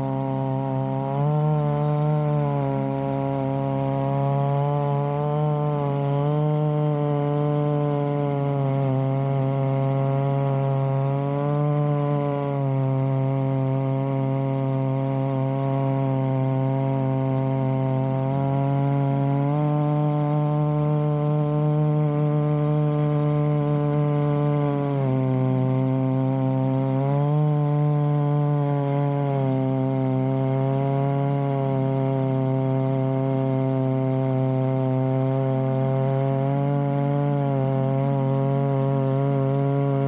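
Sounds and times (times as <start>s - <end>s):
chainsaw ripping a log: 0.0s - 40.0s.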